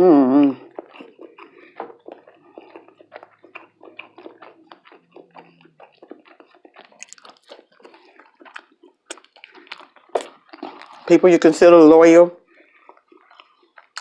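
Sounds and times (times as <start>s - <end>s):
chewing with wet mouth clicks: 0.4s - 11.8s, 12.4s - 14.0s.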